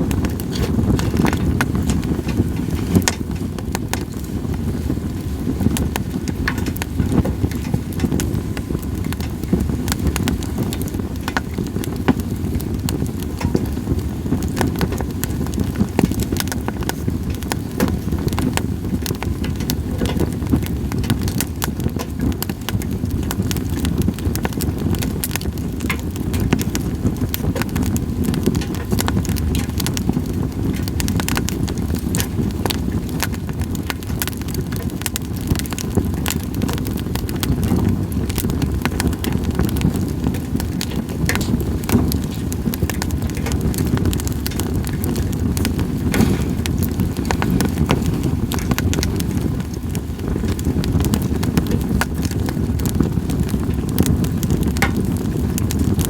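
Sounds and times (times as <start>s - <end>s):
campfire crackling and popping: 0.0s - 56.0s
low fire rumble: 0.0s - 56.0s.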